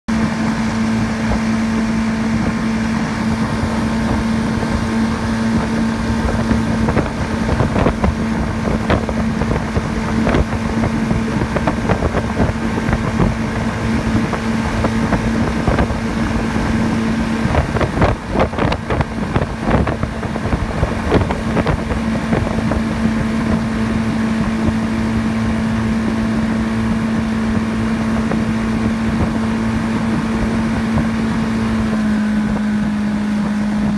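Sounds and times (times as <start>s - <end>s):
outboard motor running: 0.1s - 33.9s
rush of boat wake: 0.1s - 33.9s
wind on microphone: 0.1s - 33.9s.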